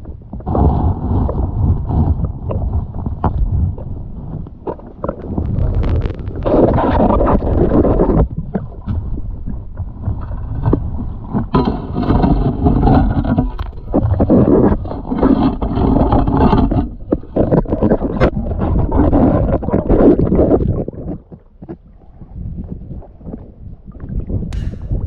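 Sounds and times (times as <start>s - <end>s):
underwater river rushing: 0.0s - 25.0s.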